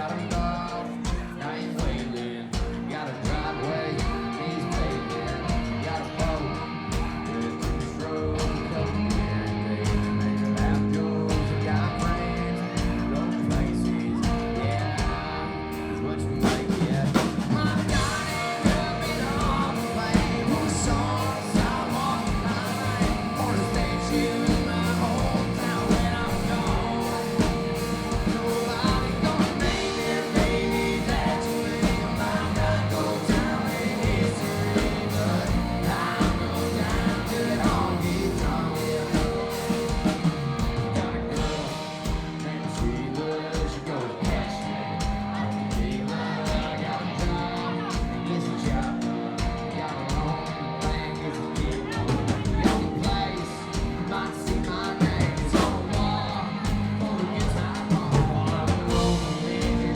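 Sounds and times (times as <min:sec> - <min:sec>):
country band playing: 0:00.0 - 0:59.9
lead singer singing: 0:00.0 - 0:59.9
steady drum beat: 0:00.0 - 0:59.9.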